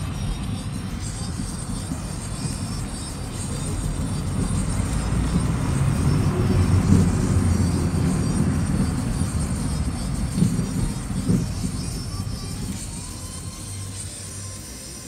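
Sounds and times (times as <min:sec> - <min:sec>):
car driving rumble: 0:00.0 - 0:15.0
passing traffic: 0:00.0 - 0:15.0.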